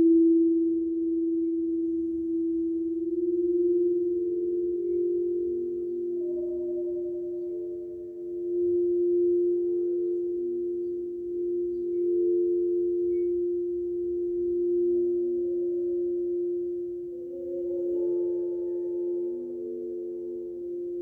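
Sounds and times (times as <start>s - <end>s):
metal sound tubes ringing: 0.0s - 21.0s.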